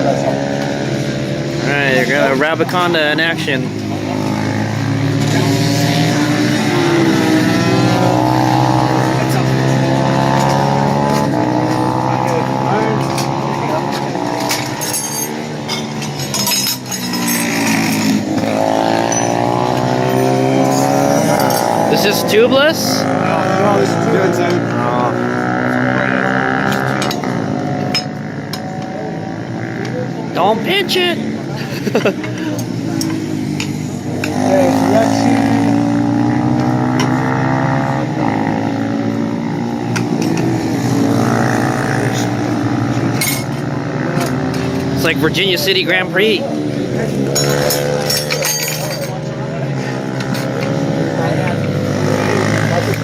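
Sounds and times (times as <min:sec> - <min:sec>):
small motorcycle engines revving: 0:00.0 - 0:53.0.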